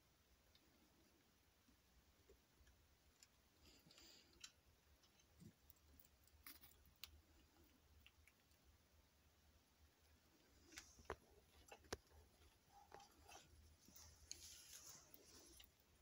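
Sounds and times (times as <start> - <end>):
rat rustling while eating: 0.3 - 16.0.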